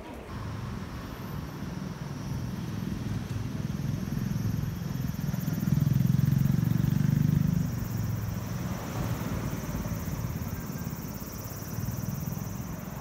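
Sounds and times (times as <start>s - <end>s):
traffic rumble: 0.0s - 13.0s
vehicle engine passing: 0.2s - 13.0s
cicadas buzzing: 0.3s - 13.0s.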